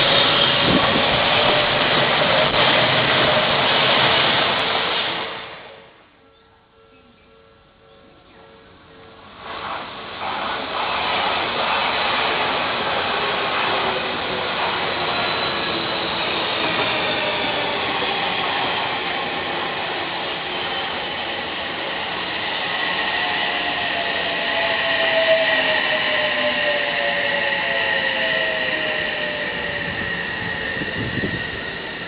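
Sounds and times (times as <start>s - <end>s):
train wheels on rails: 0.0s - 5.8s, 9.1s - 32.0s.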